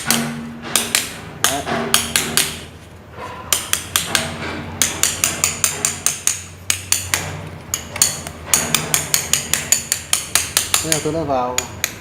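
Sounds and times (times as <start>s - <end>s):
small hammer tapping: 0.0s - 2.7s, 3.5s - 12.0s.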